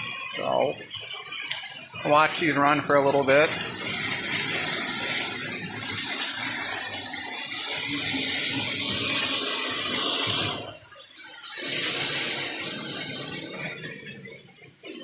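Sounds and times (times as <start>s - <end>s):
model trains whirring: 0.0s - 15.0s.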